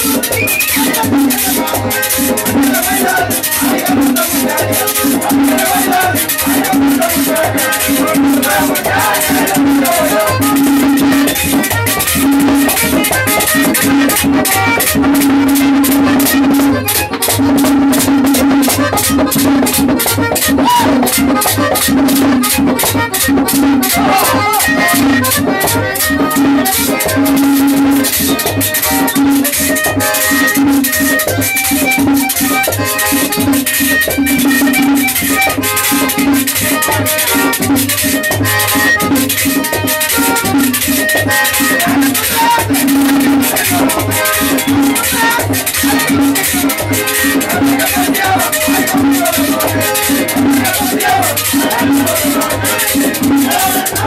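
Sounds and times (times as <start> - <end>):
accordion: 0.0 - 54.0
pulsing drum beat: 0.0 - 54.0
rattling percussion: 0.0 - 54.0.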